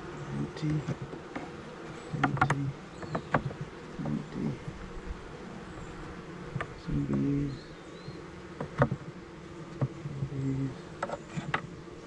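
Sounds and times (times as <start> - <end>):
bee droning close past: 0.0 - 12.0
bees buzzing: 0.0 - 12.0
clicks of wooden hive box: 0.4 - 12.0.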